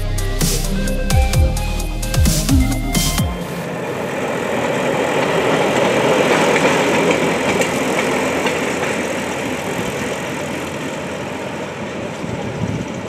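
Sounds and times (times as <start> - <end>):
rail trolley engine passing: 0.0 - 13.0.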